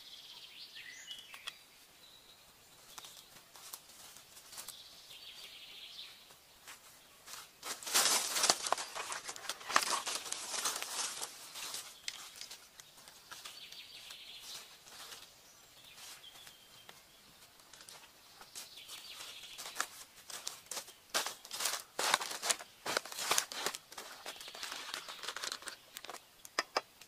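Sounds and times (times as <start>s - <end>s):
footsteps through dry leaves: 2.8s - 16.8s, 17.4s - 26.2s.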